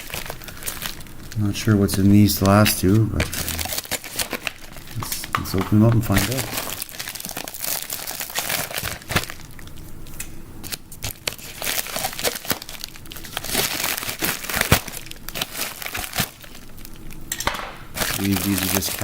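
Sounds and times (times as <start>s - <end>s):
packaging crinkling and tearing: 0.0s - 19.0s.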